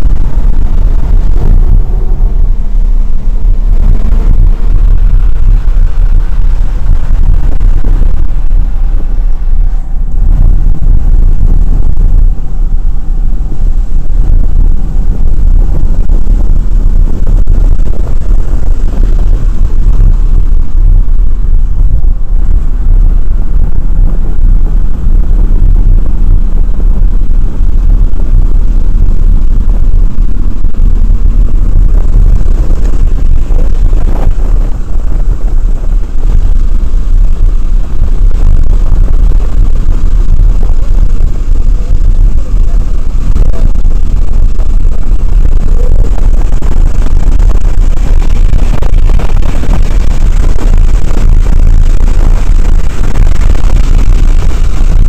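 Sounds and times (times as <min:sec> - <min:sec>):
distorted engine rumble: 0:00.0 - 0:55.0
road noise: 0:00.0 - 0:55.0.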